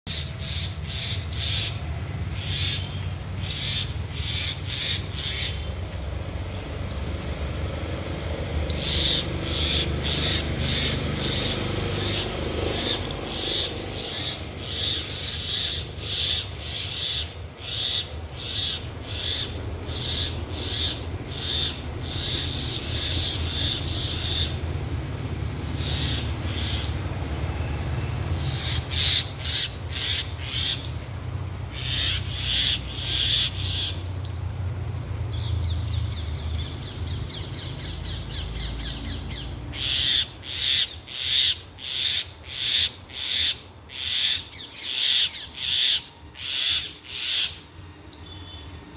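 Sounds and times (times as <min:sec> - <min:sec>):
birds alarm calling: 0:00.1 - 0:48.9.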